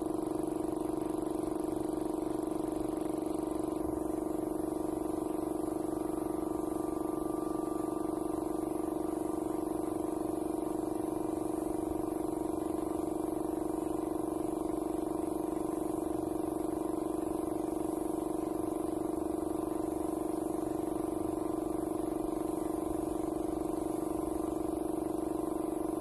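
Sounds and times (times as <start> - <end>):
air compressor humming: 0.0 - 26.0
paint spray gun hissing: 0.0 - 26.0.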